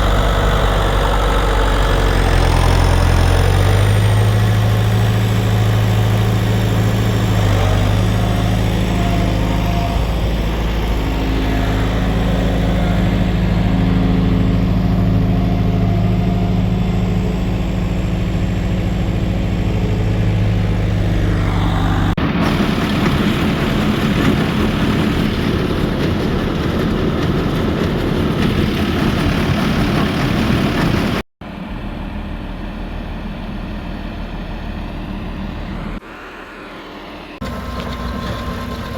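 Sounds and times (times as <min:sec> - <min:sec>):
rough machine din: 0:00.0 - 0:32.3
quiet engine noise: 0:00.0 - 0:38.9
tractor engine running: 0:00.0 - 0:38.9.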